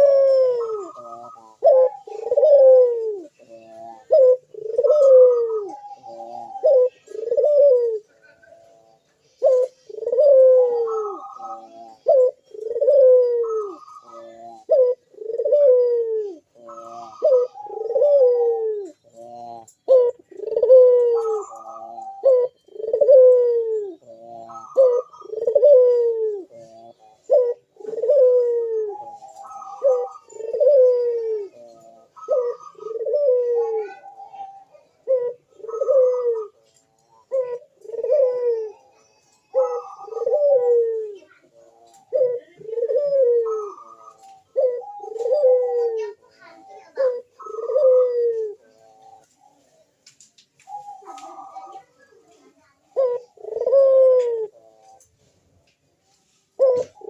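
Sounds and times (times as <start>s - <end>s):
doves cooing: 0.0s - 57.0s.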